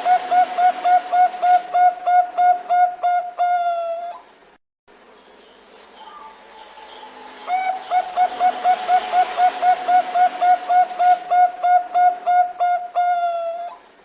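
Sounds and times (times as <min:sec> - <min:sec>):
dove calling: 0:00.0 - 0:04.3, 0:05.4 - 0:13.9.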